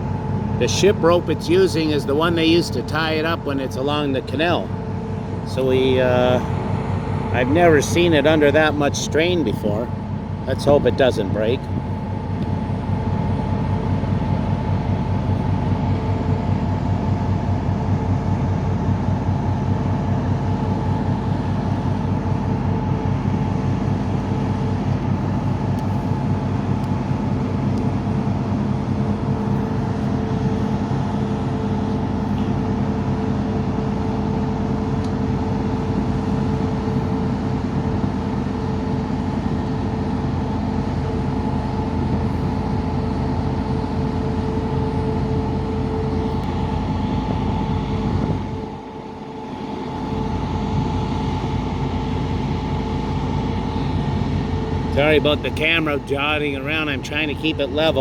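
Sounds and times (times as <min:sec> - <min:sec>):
large engine droning: 0:00.0 - 0:58.0.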